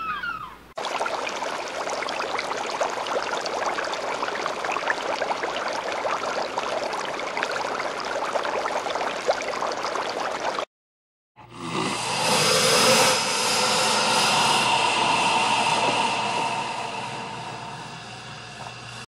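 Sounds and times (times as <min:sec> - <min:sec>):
rushing bubbling water: 0:00.8 - 0:10.7, 0:12.2 - 0:19.0.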